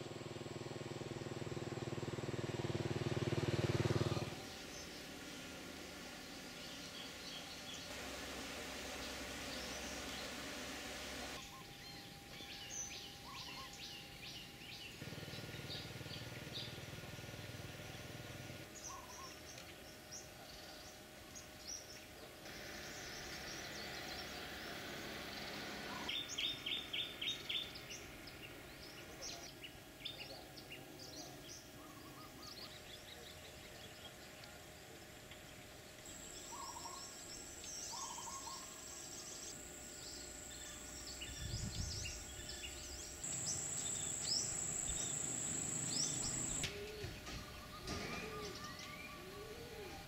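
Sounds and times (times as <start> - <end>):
outdoor hiss: 0.0 - 20.3, 21.2 - 30.2, 33.6 - 50.0
small birds chirping: 2.5 - 7.9, 11.2 - 50.0.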